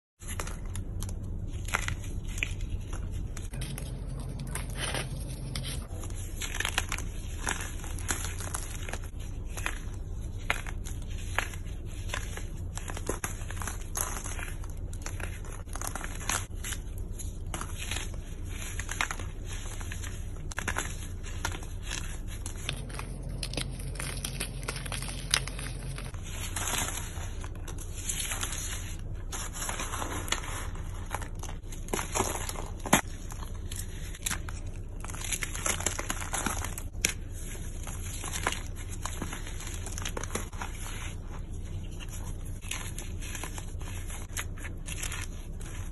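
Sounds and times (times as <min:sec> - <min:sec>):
chalky chunks crunching: 0:00.2 - 0:45.9.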